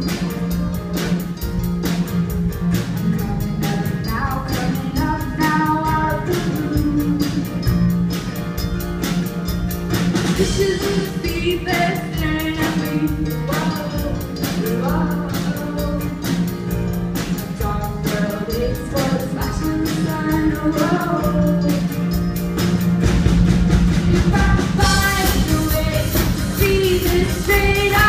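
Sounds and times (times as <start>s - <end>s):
person singing: 0.0s - 7.9s, 10.4s - 16.5s, 17.3s - 22.2s, 24.0s - 28.0s
rock band playing live: 0.0s - 28.0s.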